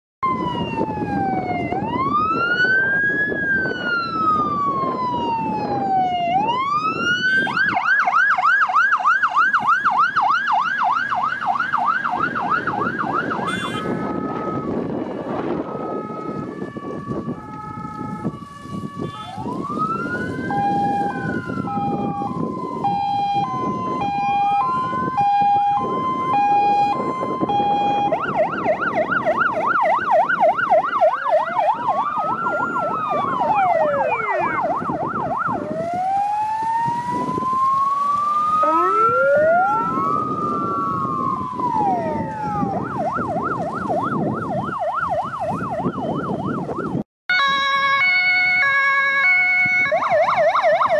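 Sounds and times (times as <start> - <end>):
fire engine sirens: 0.2 - 50.9
vehicle engines: 0.4 - 46.0.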